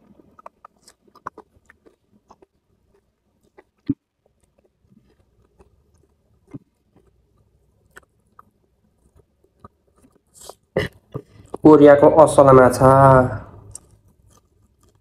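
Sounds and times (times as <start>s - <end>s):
person chewing: 0.0s - 11.7s, 13.6s - 15.0s.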